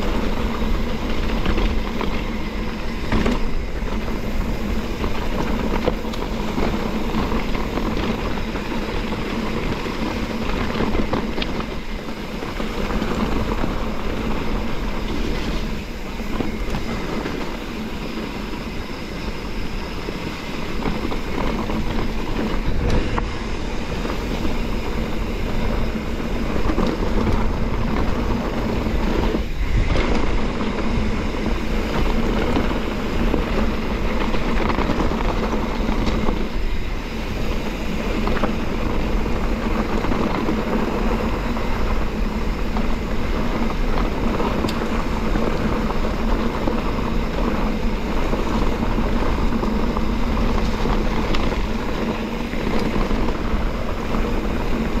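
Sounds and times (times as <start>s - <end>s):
bike rattling over bumps: 0.0s - 55.0s
bike tyres crunching on gravel: 0.0s - 55.0s.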